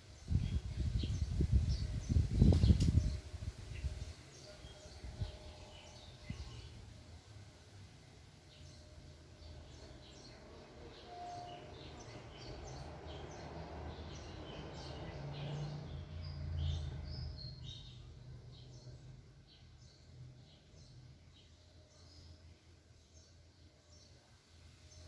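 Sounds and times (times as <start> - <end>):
small birds chirping: 0.0 - 7.0, 8.0 - 25.0.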